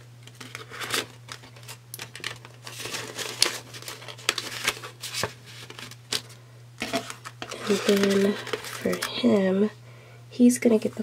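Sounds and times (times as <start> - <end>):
banknotes rustling: 0.3 - 9.6.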